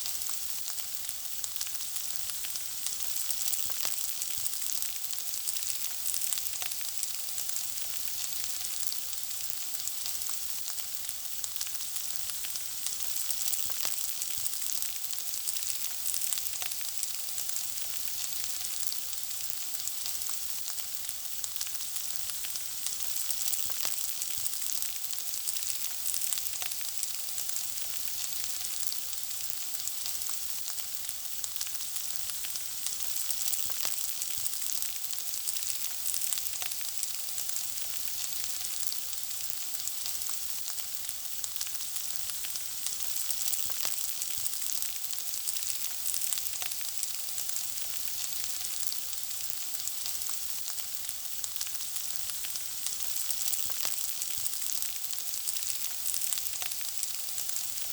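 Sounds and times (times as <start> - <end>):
food sizzling in hot oil: 0.0 - 57.9.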